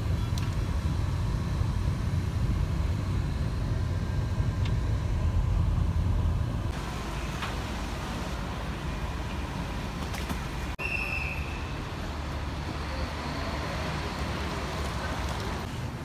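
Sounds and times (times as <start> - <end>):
passing cars and buses rumble: 0.0 - 16.0.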